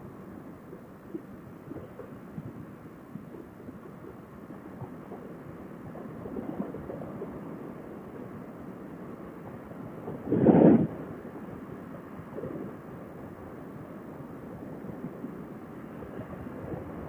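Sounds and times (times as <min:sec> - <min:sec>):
muffled wind and road rumble: 0:00.0 - 0:17.0.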